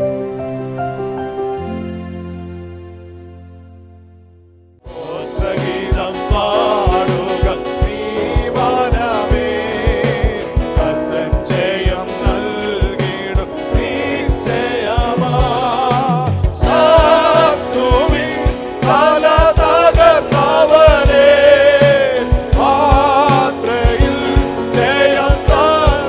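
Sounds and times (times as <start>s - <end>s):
instruments playing: 0.1s - 26.0s
person singing with vibrato: 4.8s - 26.0s
steady drum beat: 4.9s - 26.0s.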